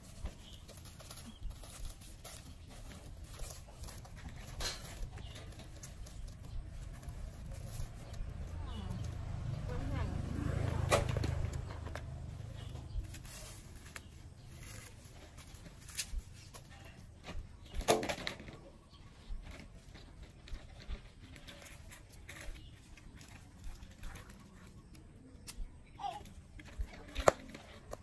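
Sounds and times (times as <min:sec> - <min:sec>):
husks crackling and rustling: 0:00.0 - 0:28.0.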